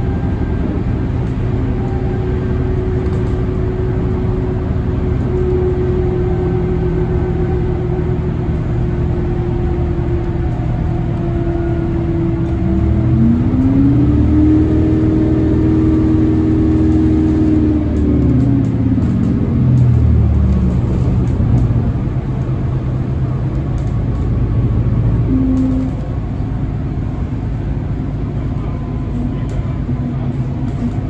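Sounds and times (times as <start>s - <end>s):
bus engine low rumble: 0.0s - 31.0s
drivetrain whine: 0.0s - 31.0s.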